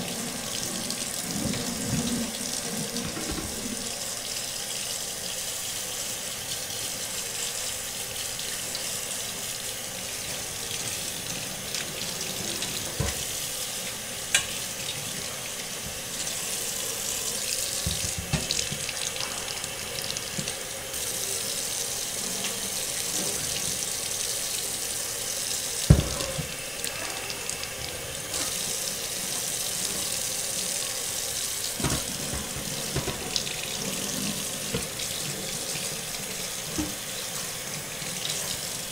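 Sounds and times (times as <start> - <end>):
faucet running into sink: 0.0 - 38.9.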